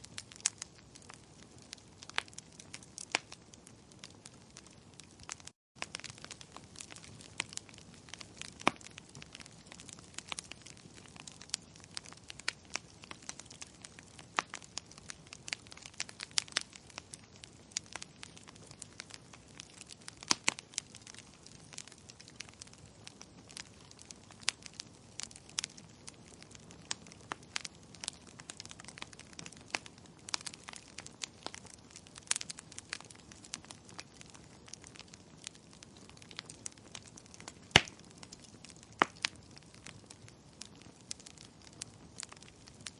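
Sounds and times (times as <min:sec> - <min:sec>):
firewood crackling and popping: 0:00.0 - 0:42.9.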